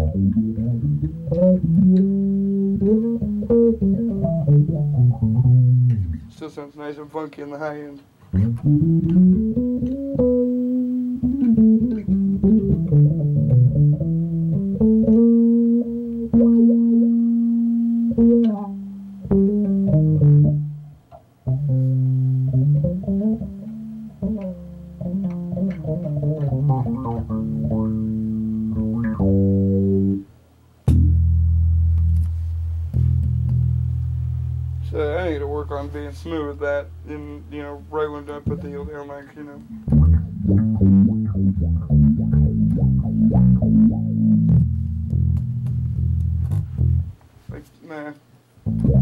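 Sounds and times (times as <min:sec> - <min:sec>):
funky bass guitar with wah: 0:00.0 - 0:06.3, 0:08.3 - 0:20.8, 0:21.4 - 0:30.3, 0:30.9 - 0:35.1, 0:38.3 - 0:39.0, 0:39.7 - 0:47.6, 0:48.6 - 0:49.0.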